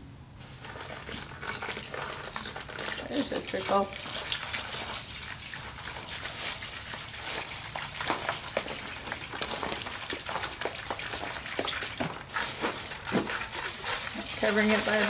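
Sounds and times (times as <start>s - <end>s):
hose water trickling into bucket: 0.4s - 15.0s.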